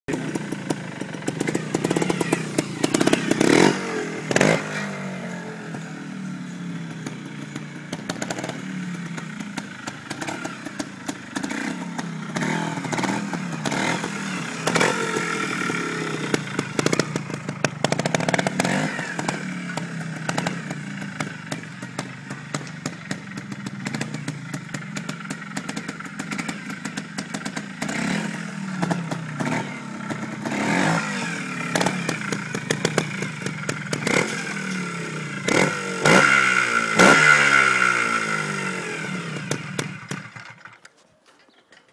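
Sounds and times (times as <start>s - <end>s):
motorcycle engine revving: 0.1s - 40.8s
engine knocks and clatter: 6.5s - 37.6s, 38.2s - 40.8s.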